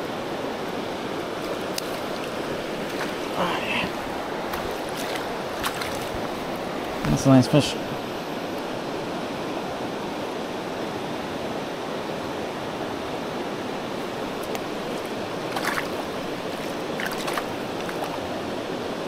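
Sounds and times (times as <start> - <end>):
rocky river rushing: 0.0 - 19.0.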